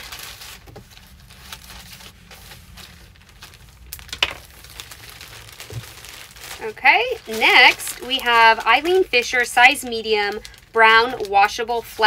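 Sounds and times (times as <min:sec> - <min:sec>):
clothing and packaging rustling: 0:00.0 - 0:12.0.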